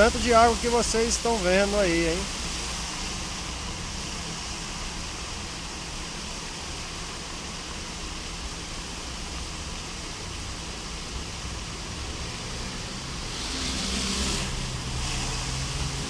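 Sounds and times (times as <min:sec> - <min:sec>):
floodwater rushing along street: 0:00.0 - 0:16.0.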